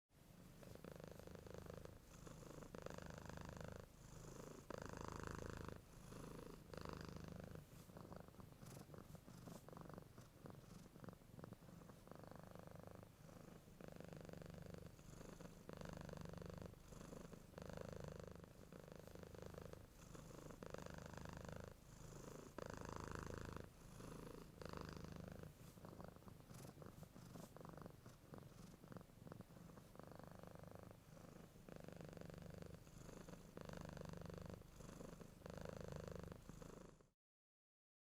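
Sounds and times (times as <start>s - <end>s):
cat purring: 0.2s - 37.2s.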